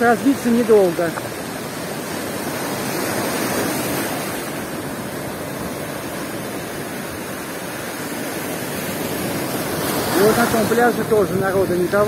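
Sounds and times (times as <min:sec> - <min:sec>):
surf breaking on stony shore: 0:00.0 - 0:12.0.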